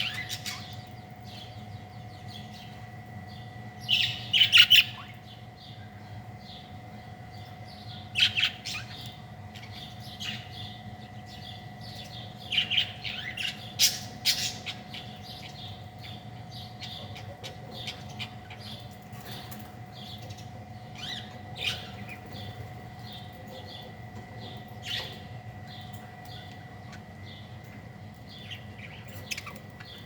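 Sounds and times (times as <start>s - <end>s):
faint constant whine: 0.0s - 30.0s
small birds chirping: 0.0s - 30.0s
steady low hum: 0.0s - 30.0s.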